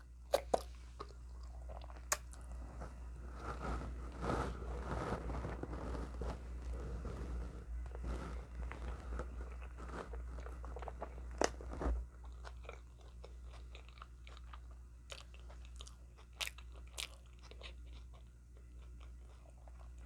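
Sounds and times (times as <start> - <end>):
chewing crunchy food: 0.0 - 20.0
steady low hum: 0.0 - 20.0.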